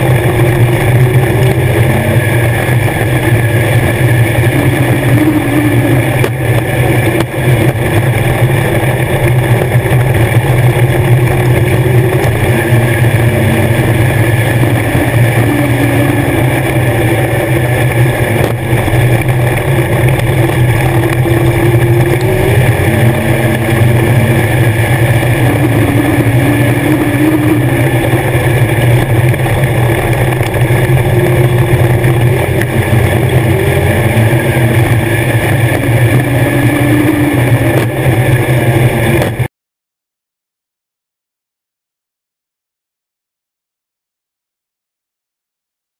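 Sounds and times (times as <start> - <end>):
race car engine running hard: 0.0 - 39.5.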